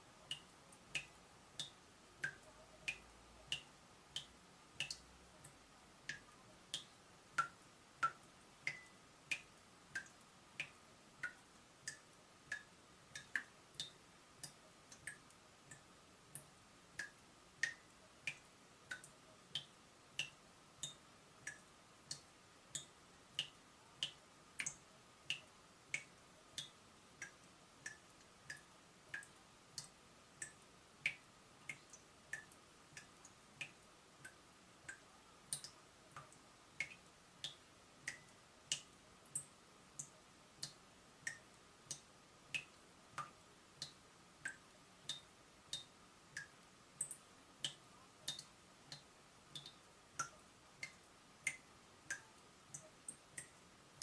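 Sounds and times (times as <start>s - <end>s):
faint steady hum: 0.0s - 54.0s
water dripping from tap: 0.2s - 53.6s.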